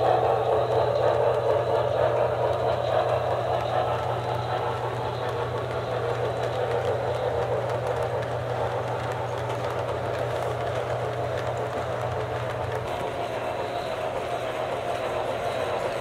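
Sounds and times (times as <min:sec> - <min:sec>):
model train wheels rolling: 0:00.0 - 0:16.0.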